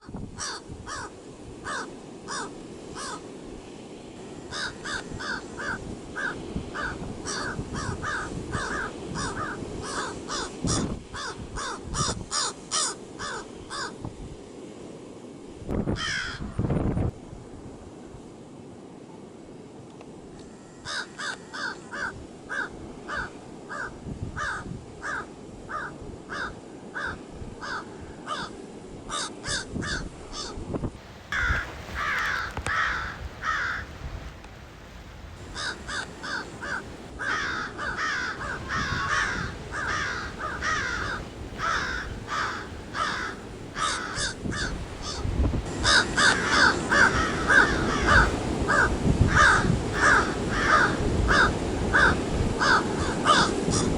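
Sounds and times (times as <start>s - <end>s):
crows cawing: 0.0s - 3.4s, 4.2s - 14.0s, 16.0s - 16.4s, 20.7s - 30.6s, 31.3s - 34.3s, 35.4s - 53.9s.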